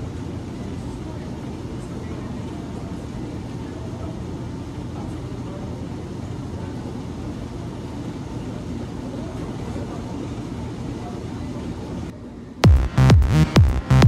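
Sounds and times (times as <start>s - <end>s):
gym machines low rumble: 0.0s - 14.0s.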